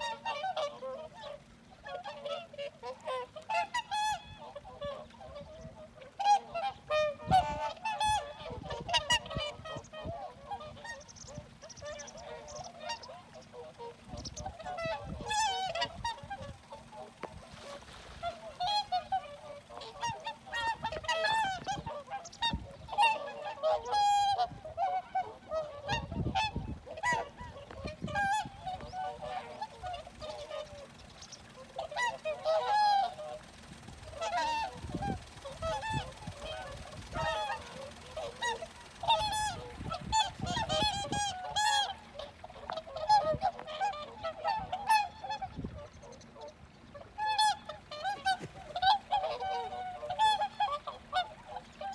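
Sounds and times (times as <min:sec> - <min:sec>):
swans honking: 0:00.0 - 0:51.9.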